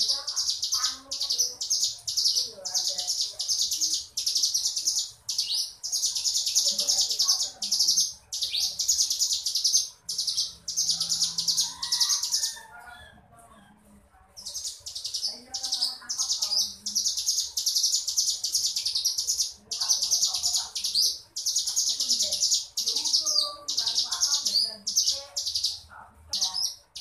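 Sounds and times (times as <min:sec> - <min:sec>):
bird singing rapid high trills: 0:00.0 - 0:12.6, 0:14.4 - 0:27.0.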